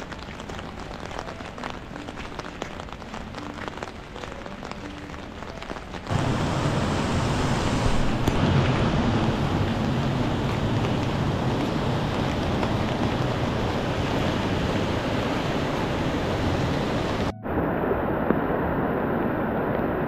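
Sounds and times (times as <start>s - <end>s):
loud steady rushing noise: 0.0s - 20.0s
rain pattering: 0.0s - 20.0s.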